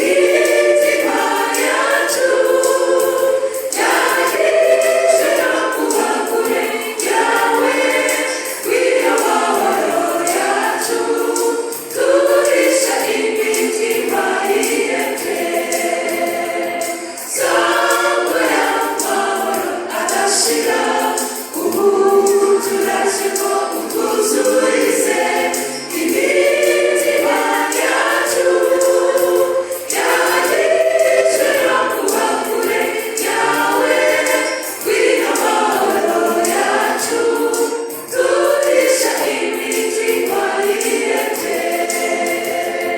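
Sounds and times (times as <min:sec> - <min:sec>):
choir singing gospel: 0:00.0 - 0:42.9.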